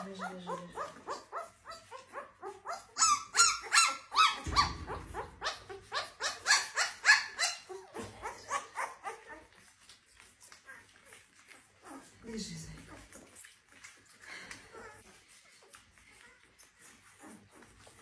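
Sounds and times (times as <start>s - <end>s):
puppies yelping: 0.0s - 18.0s.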